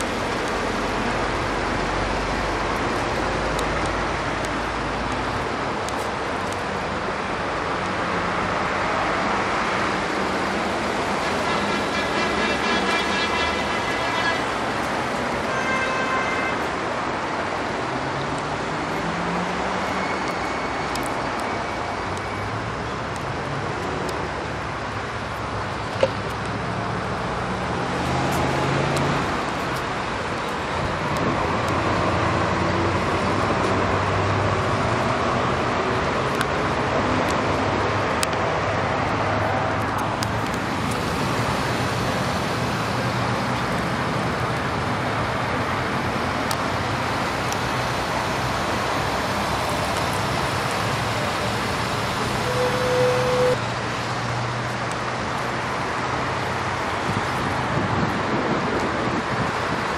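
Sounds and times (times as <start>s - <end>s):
passing car engines humming: 0.0s - 15.7s, 16.6s - 58.1s
road traffic noise: 0.0s - 59.9s.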